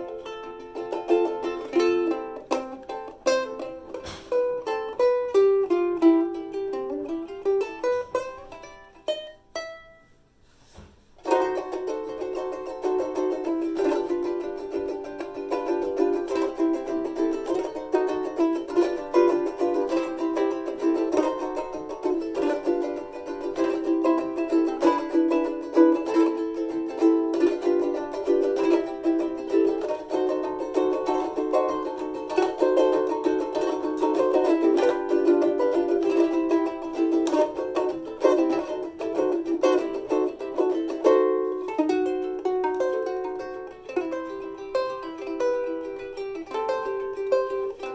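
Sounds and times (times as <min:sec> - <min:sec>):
ukulele chord strumming: 0:00.0 - 0:47.9
ukulele plucked notes: 0:00.0 - 0:47.9.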